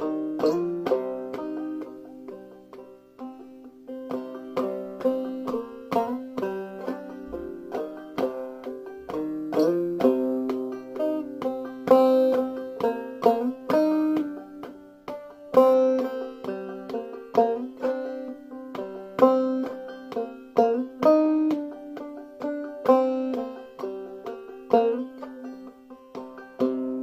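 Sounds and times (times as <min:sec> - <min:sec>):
banjo playing: 0:00.0 - 0:27.0.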